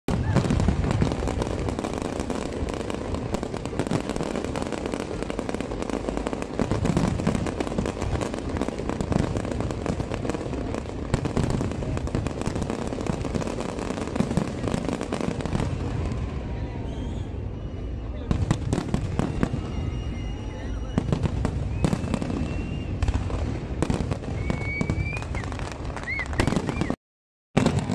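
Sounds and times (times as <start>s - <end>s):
fireworks bangs and crackling: 0.1s - 27.0s, 27.6s - 27.9s.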